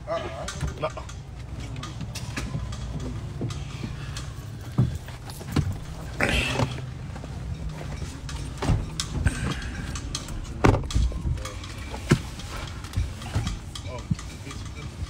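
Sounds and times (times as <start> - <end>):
vehicle cabin rumble: 0.2 - 15.0.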